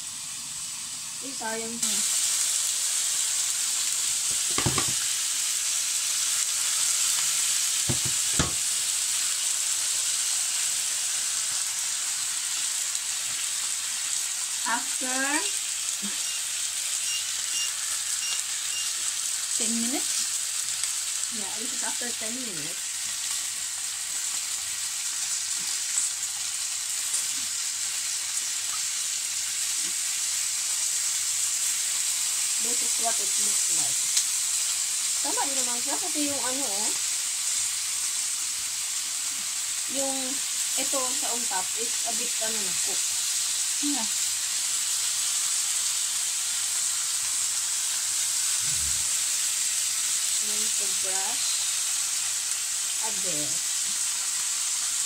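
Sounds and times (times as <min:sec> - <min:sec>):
chicken sizzling in a grill pan: 0:00.0 - 0:55.0.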